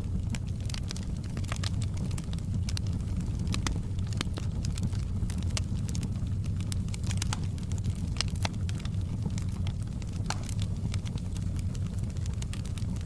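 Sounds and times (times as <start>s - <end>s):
logs crackling and popping: 0.0s - 13.0s
low rumble of flame: 0.0s - 13.0s.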